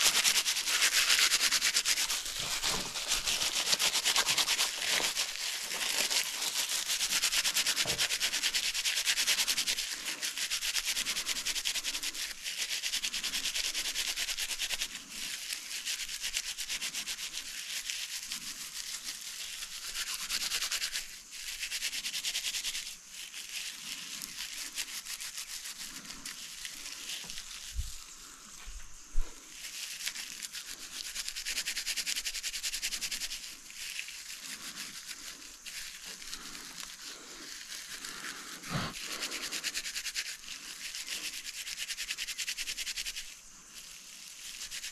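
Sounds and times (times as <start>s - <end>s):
plant fibre rubbed between palms: 0.0s - 44.9s.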